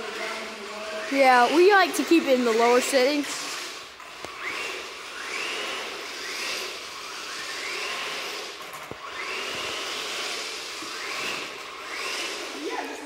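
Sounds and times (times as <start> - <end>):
electric toy car motor whining: 0.0 - 13.0.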